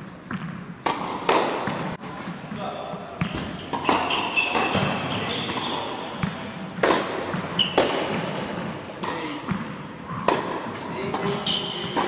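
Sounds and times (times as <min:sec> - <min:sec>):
tennis balls struck by rackets: 0:00.2 - 0:02.1, 0:03.1 - 0:12.0
tennis balls bouncing on court: 0:00.2 - 0:12.0.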